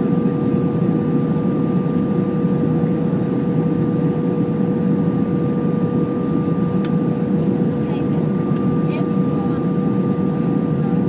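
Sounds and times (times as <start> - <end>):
aircraft cabin engine rush: 0.0 - 11.0.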